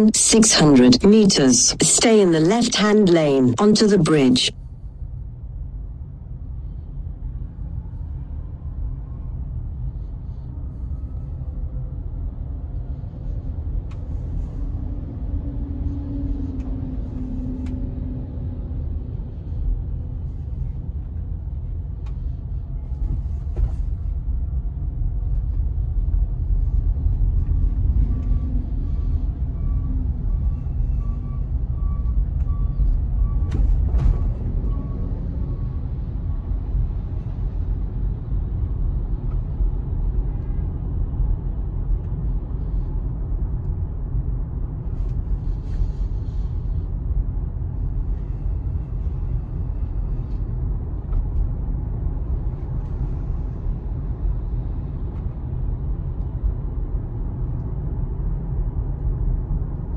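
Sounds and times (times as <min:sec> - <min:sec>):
low road and tyre rumble: 0:04.9 - 0:59.9.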